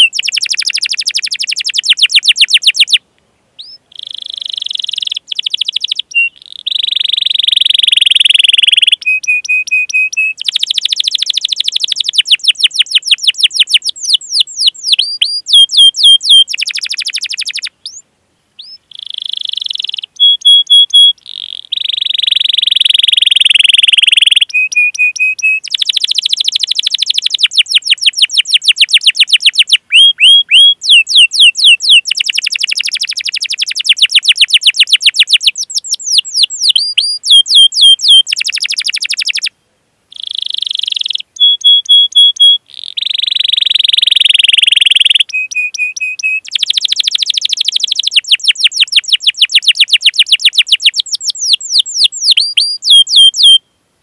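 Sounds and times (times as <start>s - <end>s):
canary singing trills: 0.0s - 3.0s, 3.6s - 18.0s, 18.6s - 53.8s.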